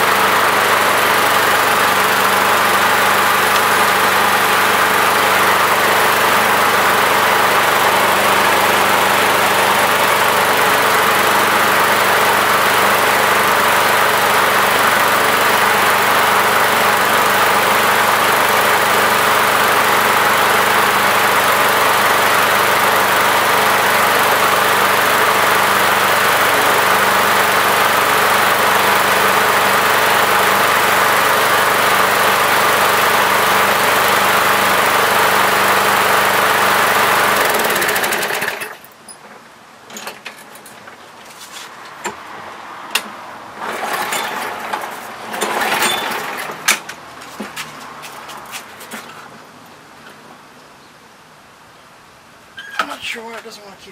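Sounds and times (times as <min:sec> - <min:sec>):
lawn mower engine running: 0:00.0 - 0:39.2, 0:39.9 - 0:49.2.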